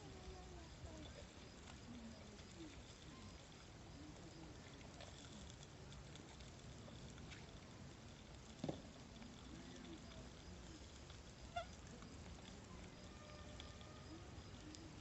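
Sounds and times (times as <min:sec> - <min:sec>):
fire crackling: 0:00.0 - 0:15.0.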